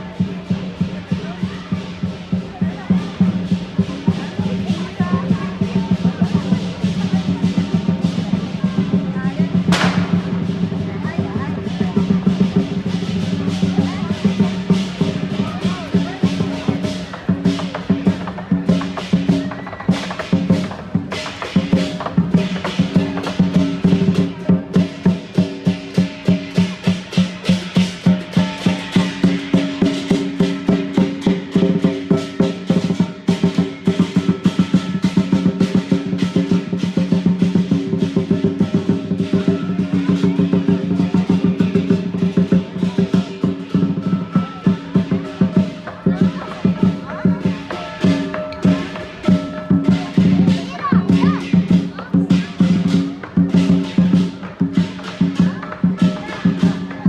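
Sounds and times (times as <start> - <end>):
big drum beating: 0.0 - 57.0
cymbals clashing: 0.2 - 56.9.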